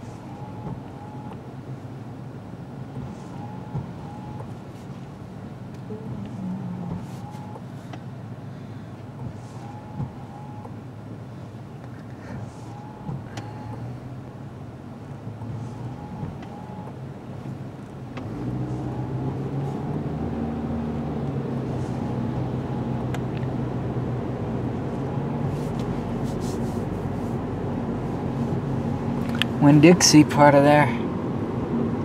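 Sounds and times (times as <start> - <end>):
car engine and cabin noise: 0.0 - 32.0
road noise: 0.0 - 32.0.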